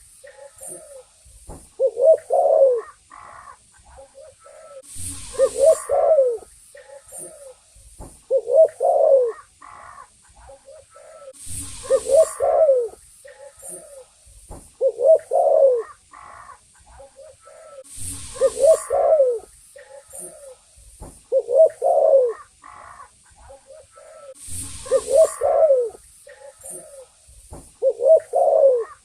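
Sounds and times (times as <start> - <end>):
dove cooing: 1.8 - 7.6, 8.3 - 14.1, 14.8 - 20.6, 21.3 - 27.1, 27.8 - 29.0.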